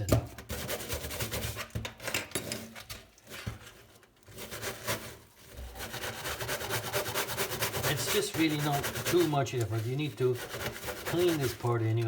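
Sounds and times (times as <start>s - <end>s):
brush scrubbing metal bolts: 0.5s - 12.0s.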